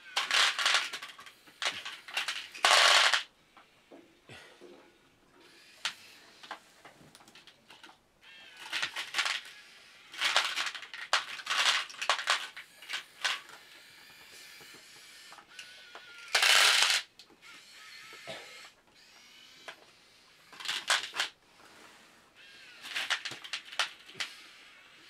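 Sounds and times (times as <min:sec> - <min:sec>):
toy electric motors whining: 0:00.0 - 0:03.7, 0:05.4 - 0:25.0.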